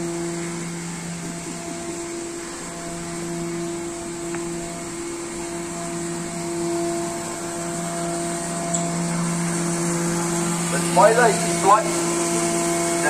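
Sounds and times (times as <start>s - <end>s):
motor hum with higher whine: 0.0s - 13.0s.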